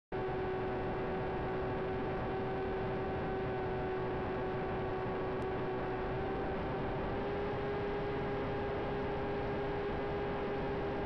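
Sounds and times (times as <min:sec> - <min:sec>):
electric motor and propeller humming: 0:00.2 - 0:11.0.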